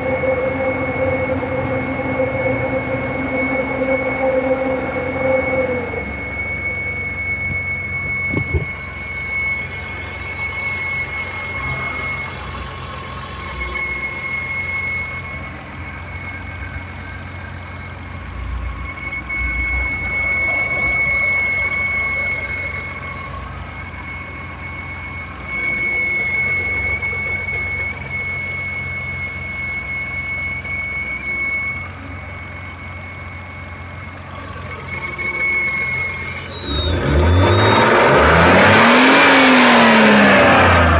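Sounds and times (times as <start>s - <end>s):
car engine idling: 0.0s - 40.9s
high-pitched scraping squeal: 0.0s - 40.9s.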